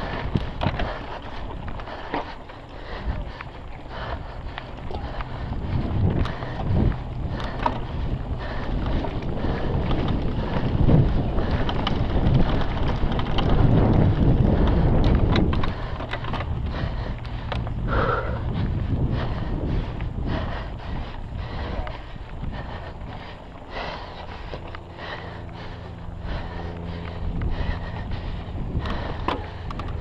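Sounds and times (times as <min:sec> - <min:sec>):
bike rattles and clicks: 0:00.0 - 0:30.0
knobby tyres rumbling on dirt: 0:00.0 - 0:30.0
wind buffeting microphone: 0:00.0 - 0:30.0.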